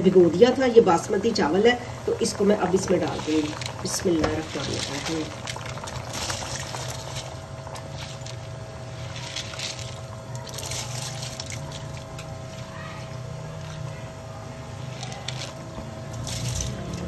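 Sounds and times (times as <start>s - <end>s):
rice pouring into boiling liquid: 0.2s - 13.9s, 14.6s - 17.0s.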